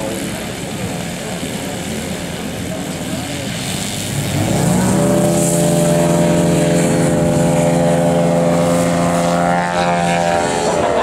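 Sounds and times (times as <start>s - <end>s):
model airplane engine and propeller: 0.0s - 11.0s.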